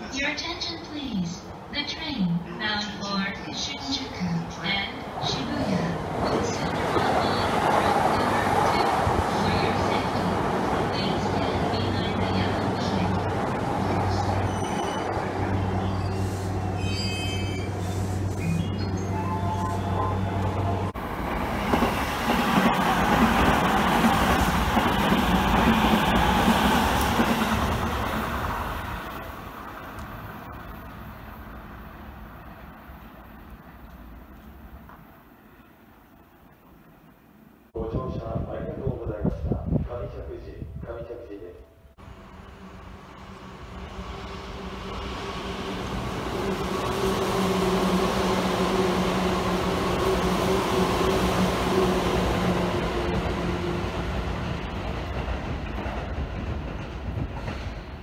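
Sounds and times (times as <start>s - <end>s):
electric train passing: 3.0s - 37.4s, 41.8s - 58.0s.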